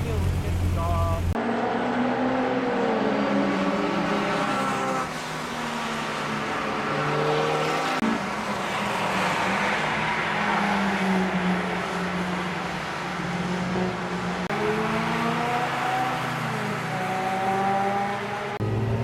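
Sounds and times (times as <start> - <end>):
car engines revving past: 1.3 - 19.0.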